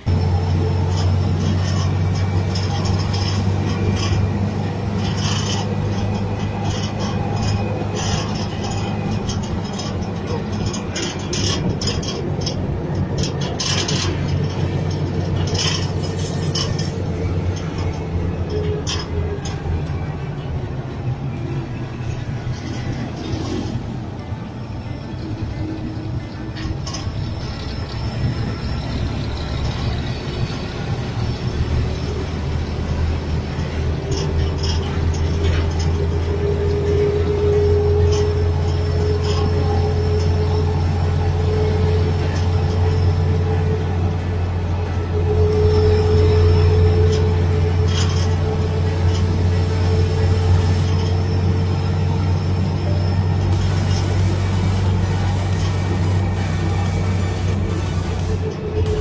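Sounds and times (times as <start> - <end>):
hissy road noise: 0.0 - 59.0
truck engine drone: 0.0 - 59.0.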